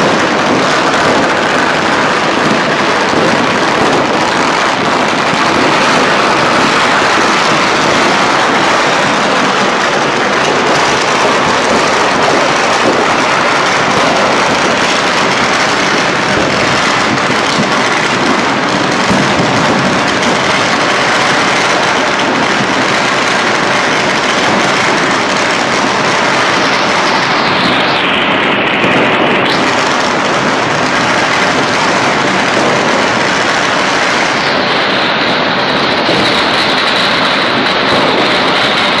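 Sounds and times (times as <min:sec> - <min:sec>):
firecrackers crackling: 0:00.0 - 0:39.0.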